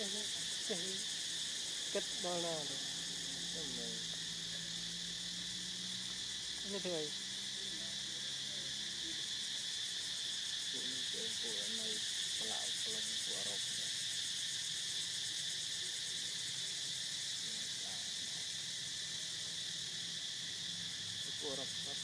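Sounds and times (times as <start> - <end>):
insects shrilling: 0.0 - 22.0.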